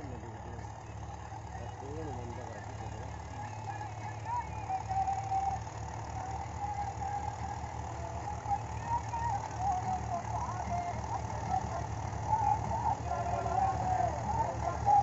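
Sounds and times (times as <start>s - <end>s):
tractor diesel engines running: 0.0s - 15.0s.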